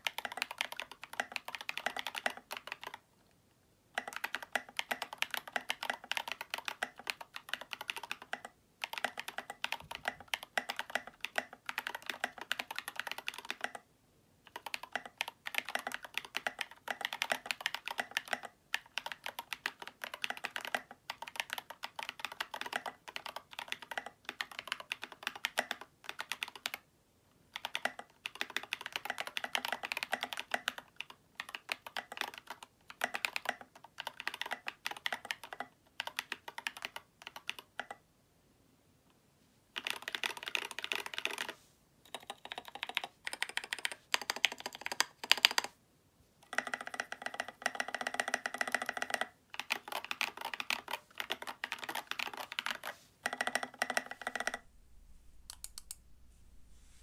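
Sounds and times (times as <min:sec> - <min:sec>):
mechanical keyboard typing: 0:00.0 - 0:03.0, 0:04.0 - 0:13.8, 0:14.5 - 0:26.8, 0:27.5 - 0:38.0, 0:39.8 - 0:45.8, 0:46.4 - 0:54.7.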